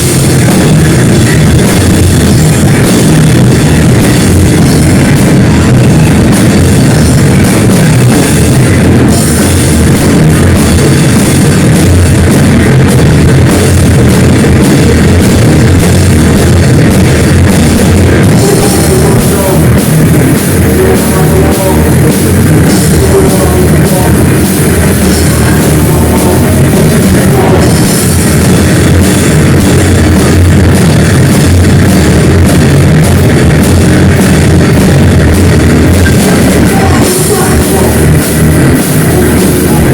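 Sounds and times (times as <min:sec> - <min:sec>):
loud rock music with drums: 0:00.0 - 0:39.9.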